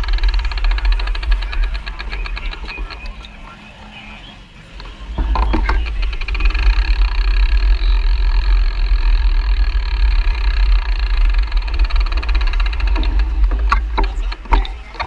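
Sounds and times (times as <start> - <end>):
bicycle freewheel ratchet buzzing: 0.0 - 3.0, 4.8 - 15.0
wind rumble on microphone: 0.0 - 15.0.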